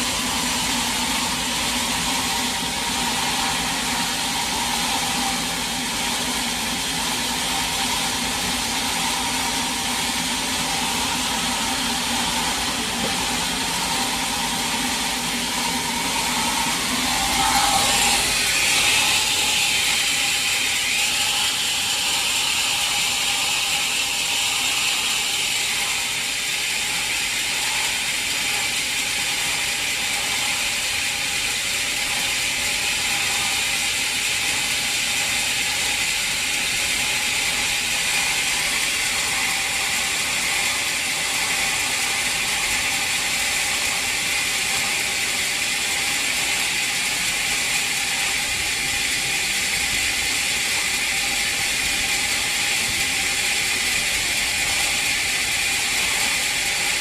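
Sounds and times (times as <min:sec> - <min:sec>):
sawmill machinery rattling: 0:00.0 - 0:57.0.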